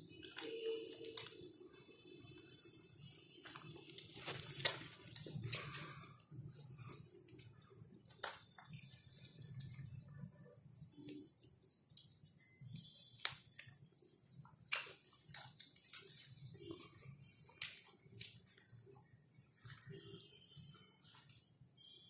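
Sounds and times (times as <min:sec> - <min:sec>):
puppies suckling and smacking: 0:02.8 - 0:21.9.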